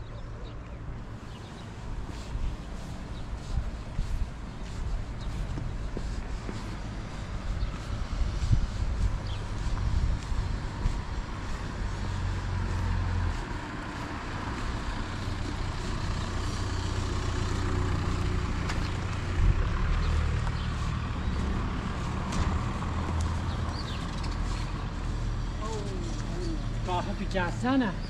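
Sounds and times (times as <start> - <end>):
heavy vehicle engine rumbling: 0.0 - 28.0.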